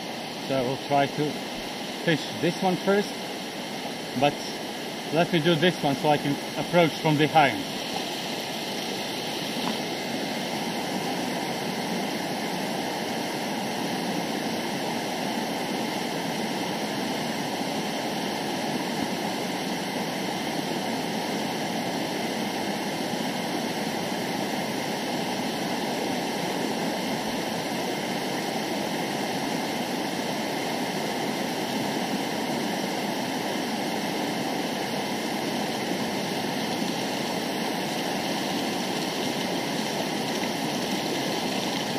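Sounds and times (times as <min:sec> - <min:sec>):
river water rushing over boulders: 0:00.0 - 0:41.9.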